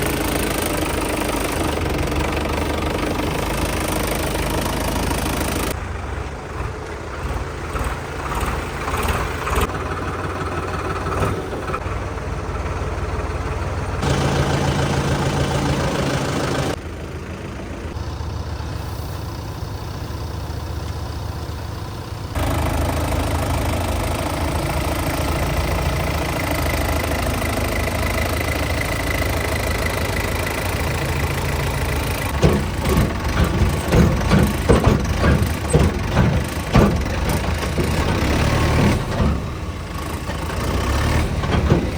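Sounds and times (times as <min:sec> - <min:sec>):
tractor diesel engine: 0:00.0 - 0:41.9.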